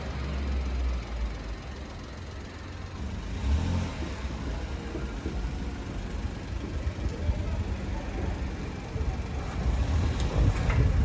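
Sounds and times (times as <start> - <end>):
deep car rumble: 0.0 - 11.0.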